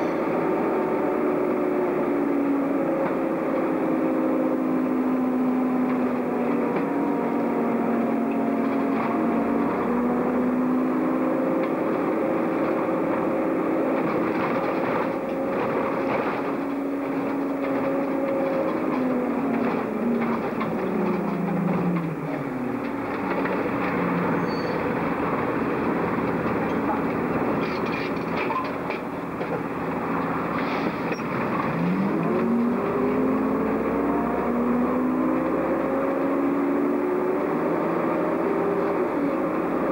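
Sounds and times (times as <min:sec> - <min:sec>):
bus engine and transmission whining: 0:00.0 - 0:39.9.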